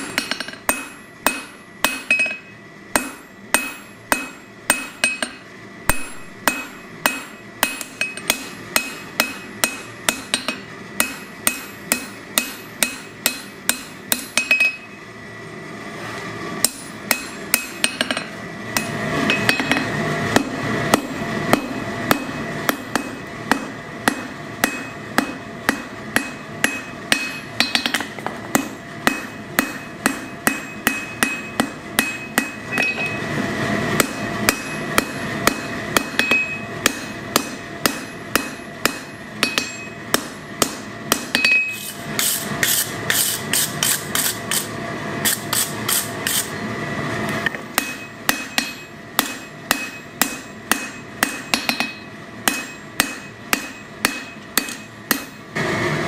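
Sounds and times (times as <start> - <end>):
anvil ringing: 0.0 - 15.0, 16.6 - 33.3, 34.0 - 41.9, 47.8 - 55.5
hammer striking steel on anvil: 0.0 - 15.0, 16.6 - 33.3, 34.0 - 46.6, 47.4 - 55.6.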